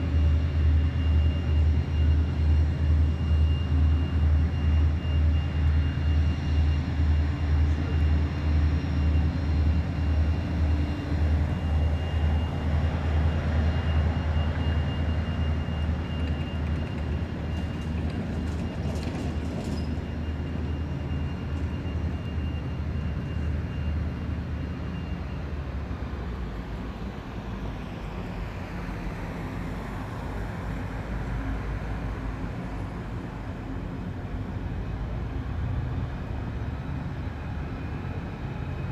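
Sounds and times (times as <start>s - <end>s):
boat diesel engines throbbing: 0.0s - 38.9s.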